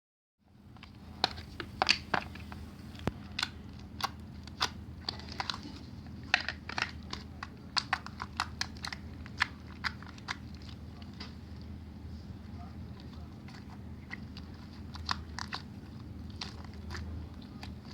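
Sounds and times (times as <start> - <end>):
steady low hum: 0.5 - 17.9.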